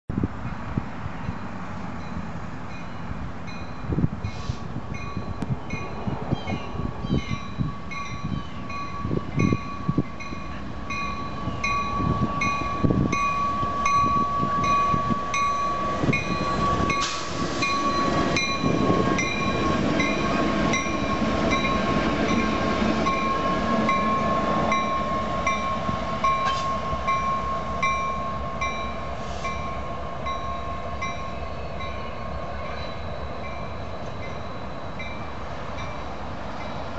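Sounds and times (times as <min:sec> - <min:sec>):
locomotives rumbling past: 0:00.5 - 0:36.9
constant high tone: 0:05.0 - 0:36.9.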